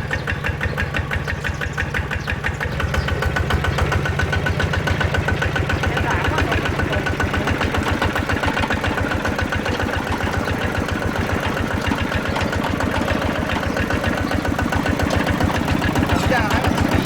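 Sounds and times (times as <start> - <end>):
mini tractor engine running: 0.0 - 17.0.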